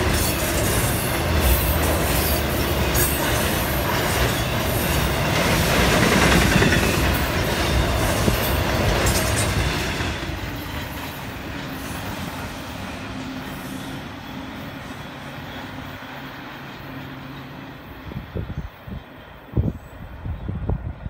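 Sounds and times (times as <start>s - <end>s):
freight train rail and wheel noise: 0.0s - 21.0s.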